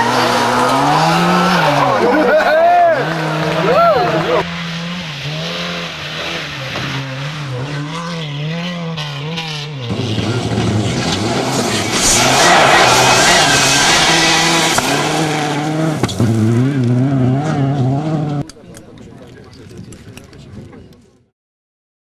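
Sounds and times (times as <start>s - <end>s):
car passing with tyre noise: 0.0s - 18.4s
racing car engine revving: 0.0s - 18.5s.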